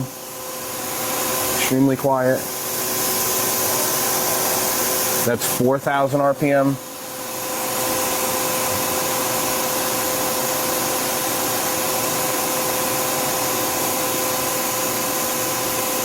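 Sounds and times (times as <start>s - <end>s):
lathe spindles hissing and whining: 0.0s - 16.0s.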